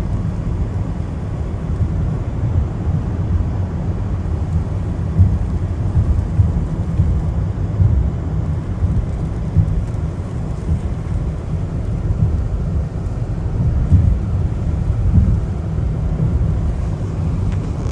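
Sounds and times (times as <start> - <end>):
car driving on wet road: 0.0 - 17.9
rain: 0.0 - 17.9.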